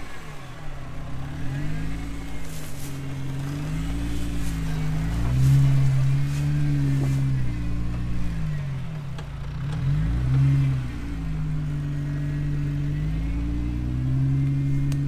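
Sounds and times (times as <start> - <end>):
car engine crawling at low revs: 0.0 - 15.0.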